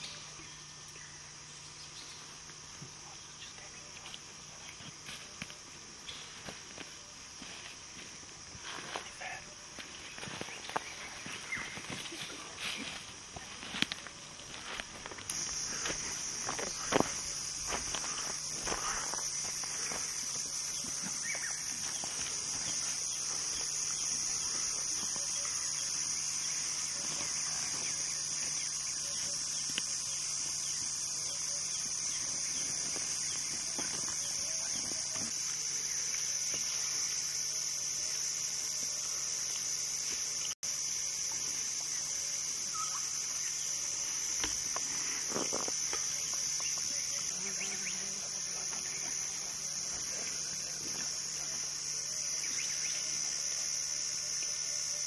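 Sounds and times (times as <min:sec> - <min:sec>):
insect chorus shrilling: 0:00.0 - 0:55.0.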